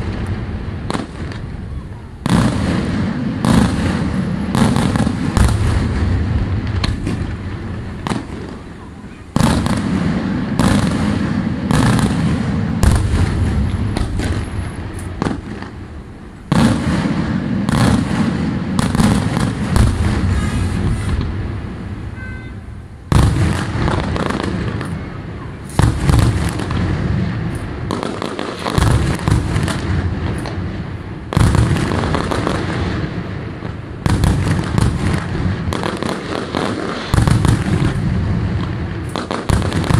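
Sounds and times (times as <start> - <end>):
firework crackling: 0.0 - 39.9
firework shells bursting: 2.2 - 22.2, 23.1 - 39.9.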